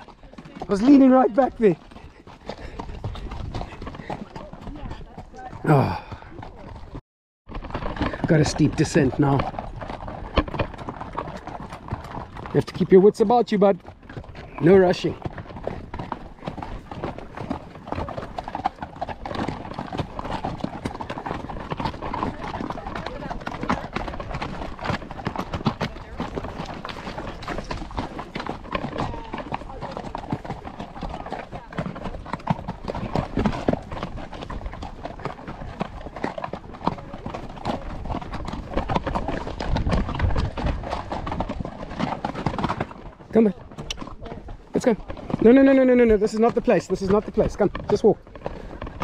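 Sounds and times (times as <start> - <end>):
horse hooves clopping: 0.0 - 49.0.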